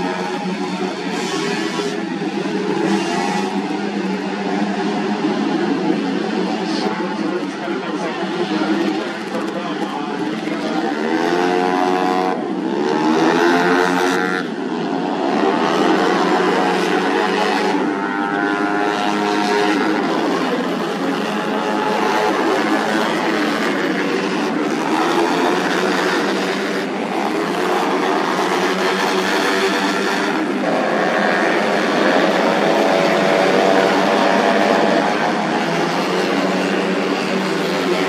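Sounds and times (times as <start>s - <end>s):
scooter engines revving: 0.0s - 38.0s.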